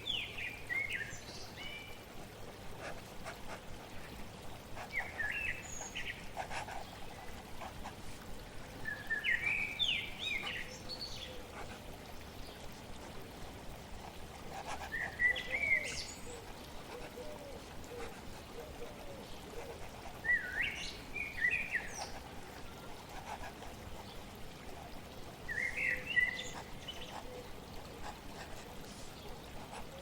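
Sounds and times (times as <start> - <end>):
flowing water: 0.0 - 30.0.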